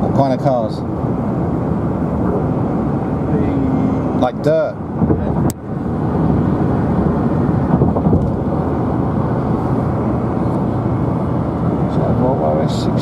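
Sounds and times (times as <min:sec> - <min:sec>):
road and engine rumble inside car: 0:00.0 - 0:13.0.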